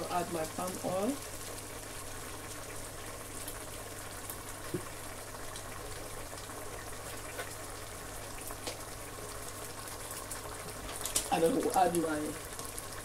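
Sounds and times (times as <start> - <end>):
soup bubbling: 0.1 - 13.0.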